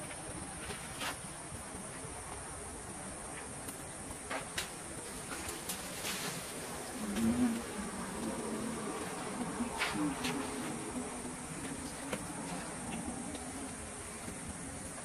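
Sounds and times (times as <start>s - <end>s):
faint ticks of leaves and twigs: 0.0s - 15.0s.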